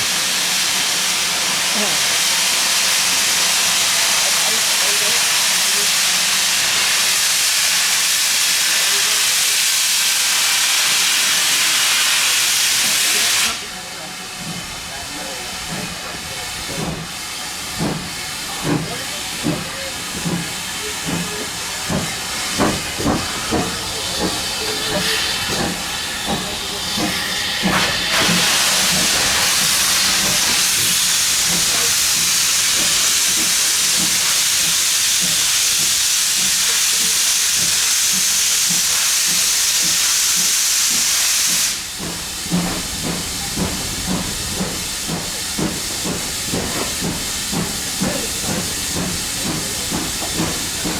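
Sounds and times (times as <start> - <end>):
steam hissing: 0.0 - 50.9
steam locomotive exhaust beats: 0.0 - 50.9.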